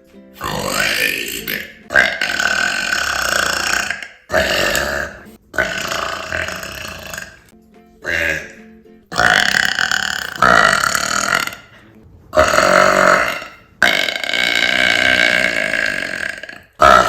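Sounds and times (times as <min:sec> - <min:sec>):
woman burping loudly: 0:00.4 - 0:11.8, 0:12.4 - 0:17.0.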